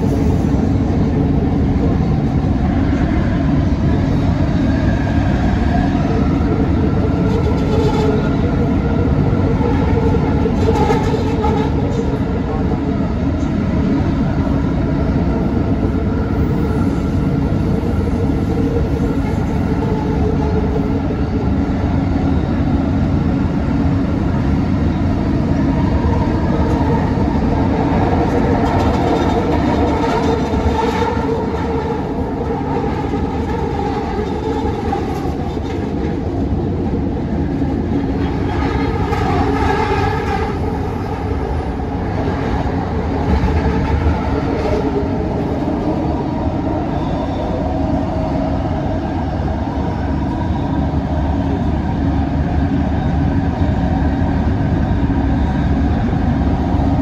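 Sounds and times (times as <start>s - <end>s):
train rolling rumble: 0.0s - 57.0s.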